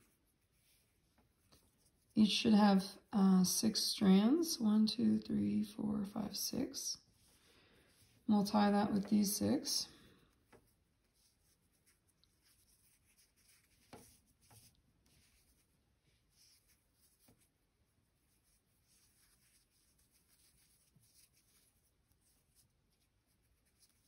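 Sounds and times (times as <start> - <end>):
faint cord rustling: 0.0 - 2.3, 6.5 - 24.0.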